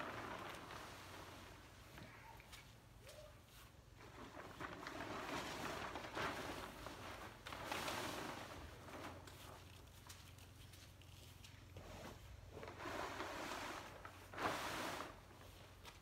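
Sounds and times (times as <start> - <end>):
plastic sheet swishes: 0.0 - 2.0, 2.9 - 10.6, 11.2 - 16.0
plastic sheet rustling and crinkling: 0.0 - 16.0.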